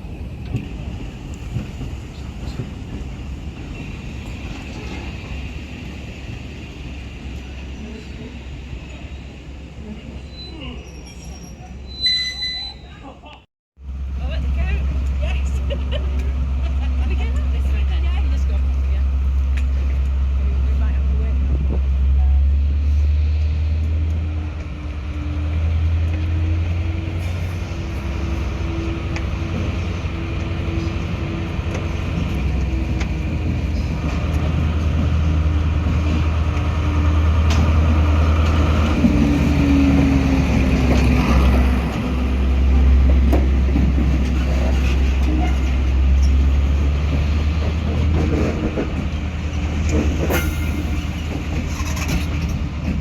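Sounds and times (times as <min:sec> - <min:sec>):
train running: 0:00.0 - 0:11.8, 0:13.8 - 0:53.0.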